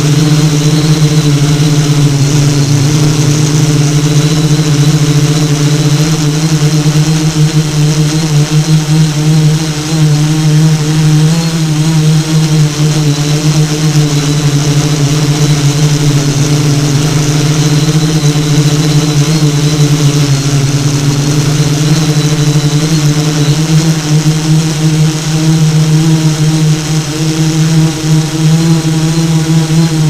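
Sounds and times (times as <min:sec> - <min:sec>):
drone motors humming: 0:00.0 - 0:30.0
propellers hissing: 0:00.0 - 0:30.0.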